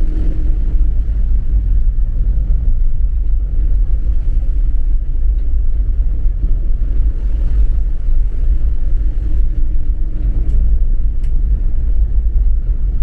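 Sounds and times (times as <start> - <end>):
car driving on flooded road: 0.0 - 13.0.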